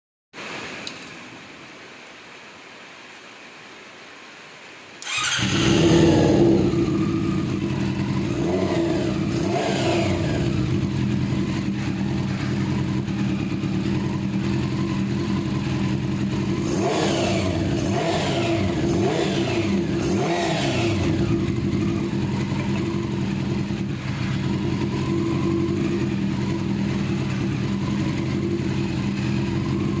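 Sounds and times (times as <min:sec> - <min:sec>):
motorcycle engine revving: 0:05.0 - 0:30.0
motorcycle engine starting and idling: 0:05.0 - 0:30.0.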